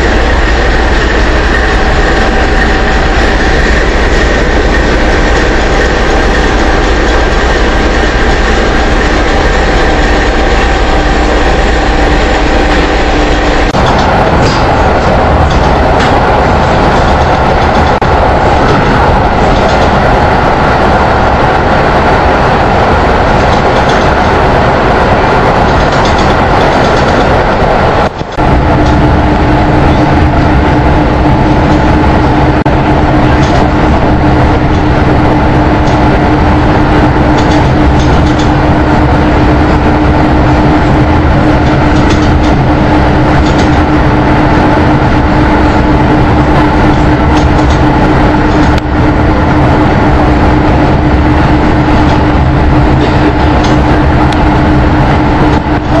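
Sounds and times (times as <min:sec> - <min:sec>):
train whine: 0:00.0 - 0:56.0
wheels rumbling on rail: 0:00.0 - 0:56.0.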